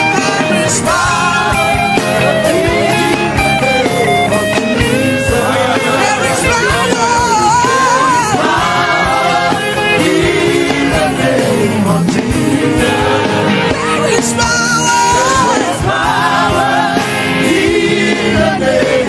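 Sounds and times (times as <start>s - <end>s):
band accompaniment: 0.0s - 19.0s.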